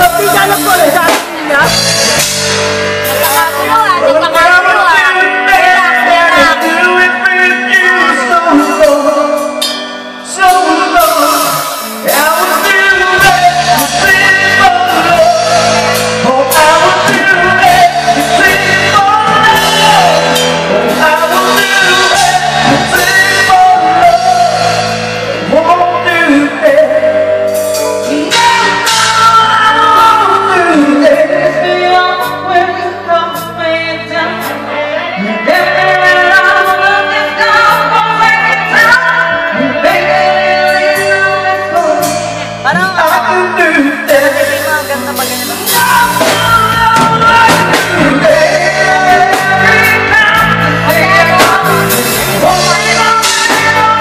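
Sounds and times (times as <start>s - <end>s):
man and woman singing: 0.0s - 2.2s, 3.1s - 9.6s, 10.2s - 54.0s
live band playing: 0.0s - 54.0s.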